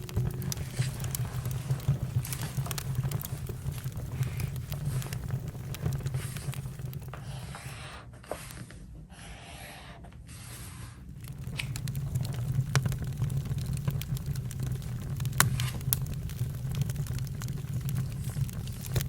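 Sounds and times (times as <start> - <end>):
campfire crackling snaps: 0.0 - 7.7, 11.1 - 19.0
low fire rumble: 0.0 - 8.0, 10.7 - 19.0.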